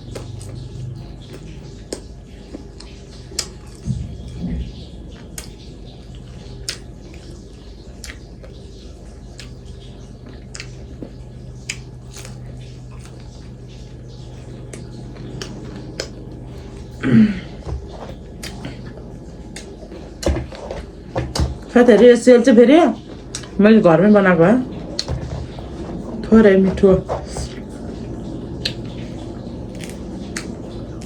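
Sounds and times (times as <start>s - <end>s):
chewing and mouth clicks: 0.0s - 4.4s, 5.2s - 17.0s, 17.8s - 21.6s, 23.2s - 23.6s, 24.7s - 26.2s, 27.1s - 31.0s
faint steady hum: 0.0s - 31.0s.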